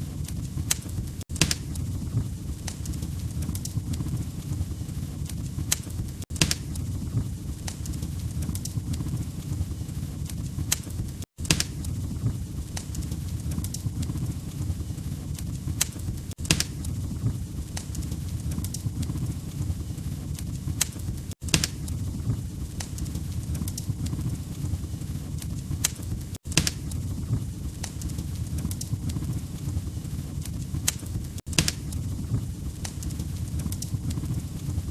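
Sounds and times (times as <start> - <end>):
log fire crackling: 0.0 - 34.9.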